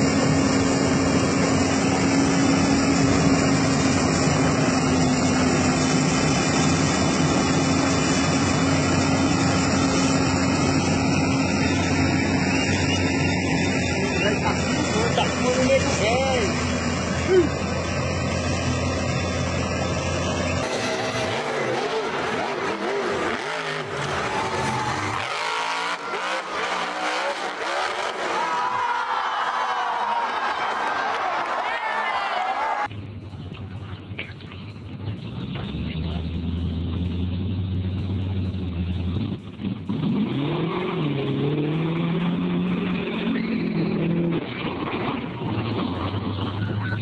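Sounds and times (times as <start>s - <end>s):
truck engine revving hard: 0.0s - 32.9s, 35.1s - 47.0s.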